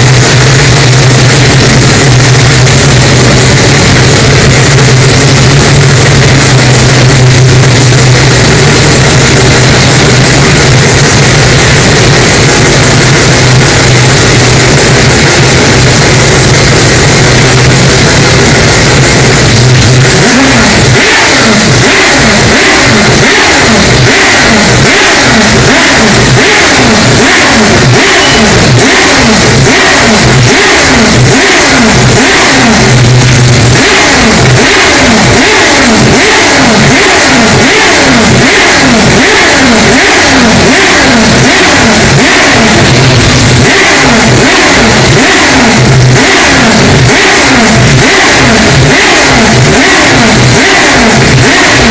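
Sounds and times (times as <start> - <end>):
rotary engine revving: 0.0 - 51.9.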